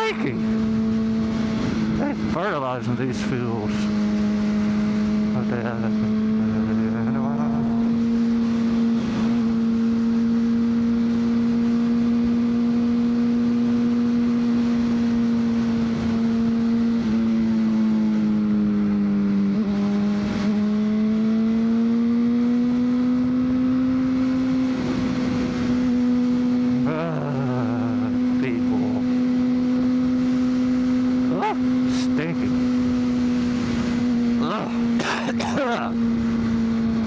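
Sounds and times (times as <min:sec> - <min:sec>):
motorcycle engine cruising: 0:00.0 - 0:35.0, 0:35.6 - 0:37.0.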